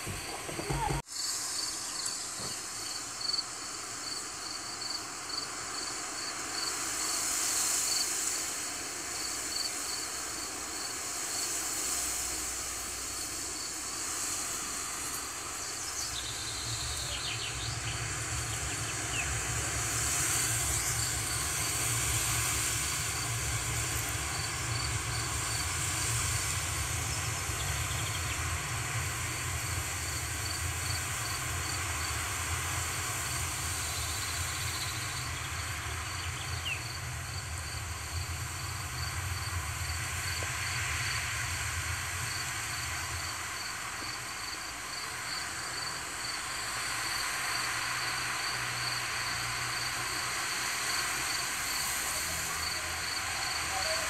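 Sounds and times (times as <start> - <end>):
cricket chirping: 0.0 - 41.3, 42.2 - 54.0
wind through grass: 0.0 - 54.0.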